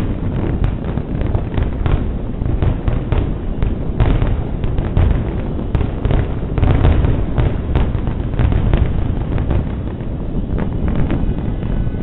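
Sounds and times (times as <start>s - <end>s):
fireworks banging: 0.0s - 12.0s
low rumble: 0.0s - 12.0s.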